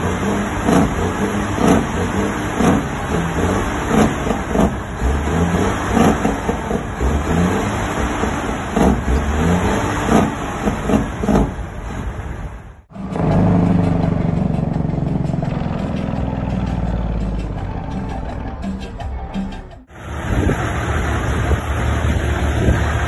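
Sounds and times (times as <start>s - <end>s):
diesel truck engine: 0.0s - 23.0s
engine drone inside truck cab: 0.0s - 23.0s.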